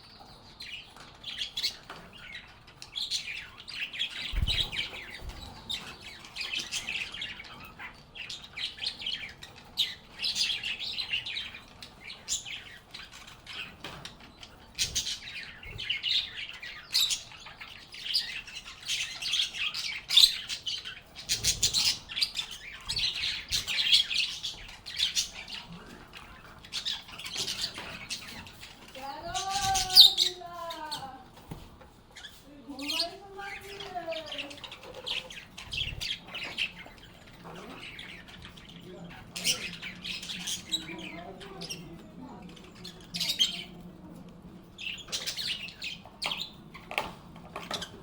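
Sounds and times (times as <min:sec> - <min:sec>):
lovebirds chirping: 0:00.0 - 0:48.0.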